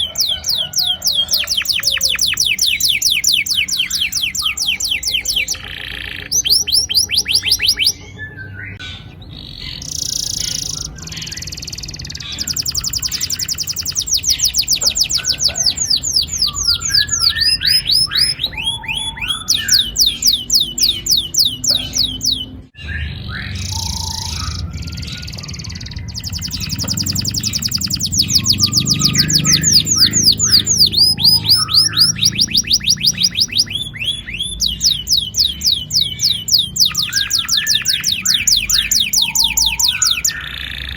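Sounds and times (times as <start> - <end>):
canary singing rolling trills: 0.0 - 40.9.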